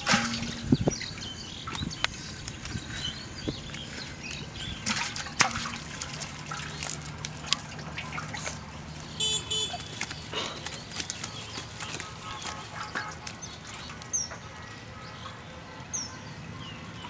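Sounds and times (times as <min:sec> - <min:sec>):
water dripping: 0:00.0 - 0:02.8, 0:03.5 - 0:14.5
fish flapping and slapping: 0:00.0 - 0:14.1.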